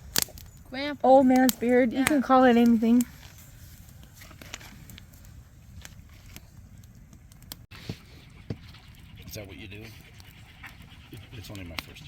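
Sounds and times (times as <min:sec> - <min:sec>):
campfire crackling: 0:00.0 - 0:12.0.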